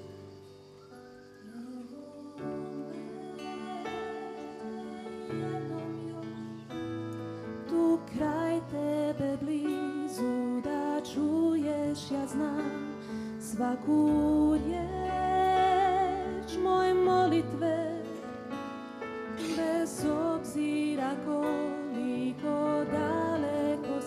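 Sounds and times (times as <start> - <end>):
woman singing into microphone: 1.4 - 18.4, 19.3 - 24.0.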